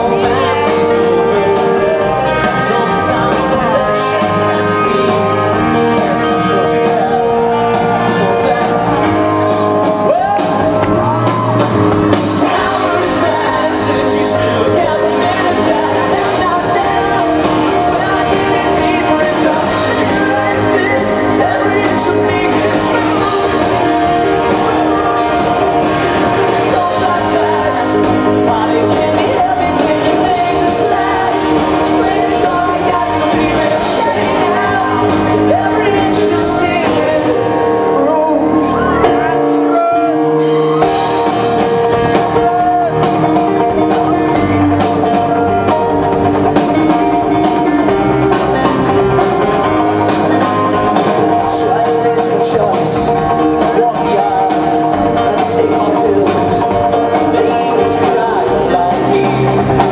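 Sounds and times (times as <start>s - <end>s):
person singing: 0.0s - 59.9s
pop-rock band playing: 0.0s - 59.9s
crowd shouting: 1.9s - 59.9s.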